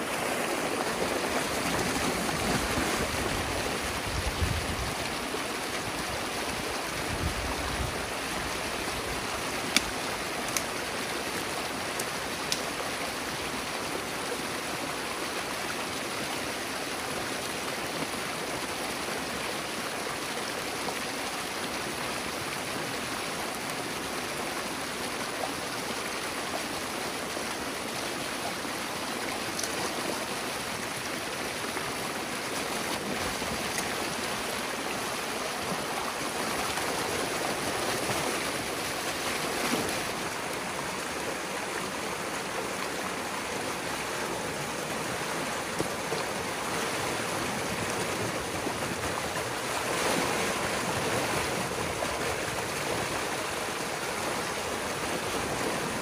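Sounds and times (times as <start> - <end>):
floodwater rushing and splashing: 0.0 - 56.0.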